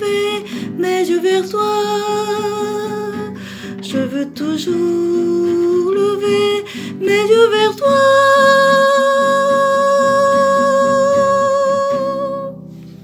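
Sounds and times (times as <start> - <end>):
person singing a hymn: 0.0 - 12.6
fingerpicked acoustic guitar: 0.0 - 13.0.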